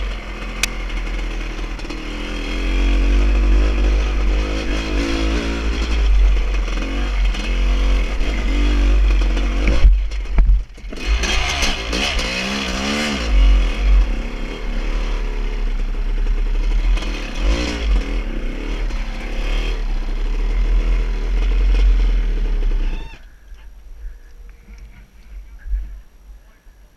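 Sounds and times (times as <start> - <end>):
vehicle engine revving: 0.0 - 23.2.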